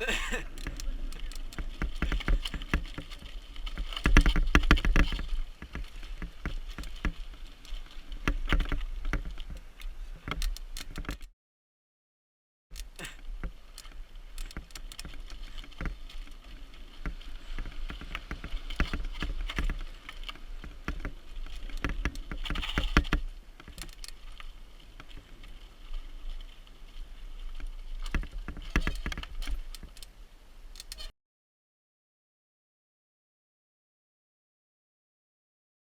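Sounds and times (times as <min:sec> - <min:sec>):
mountain bike rattling over trail: 0:00.0 - 0:11.3, 0:12.8 - 0:31.1.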